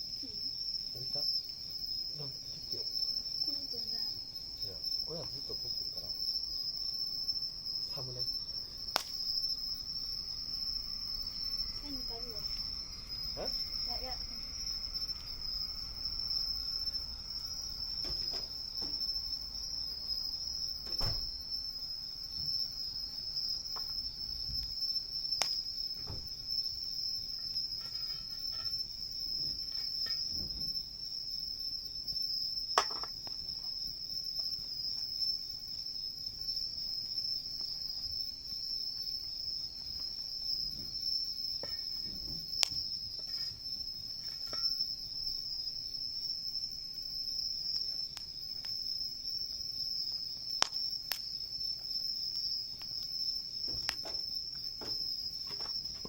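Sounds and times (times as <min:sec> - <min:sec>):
insects calling: 0:00.0 - 0:56.0
campfire pops and crackles: 0:04.9 - 0:30.8, 0:32.1 - 0:46.1, 0:47.0 - 0:56.0.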